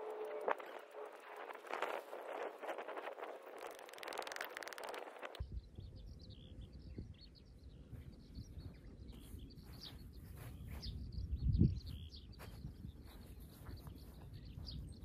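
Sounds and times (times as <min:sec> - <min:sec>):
small birds chirping: 0:00.0 - 0:15.0
wind on microphone: 0:00.0 - 0:15.0.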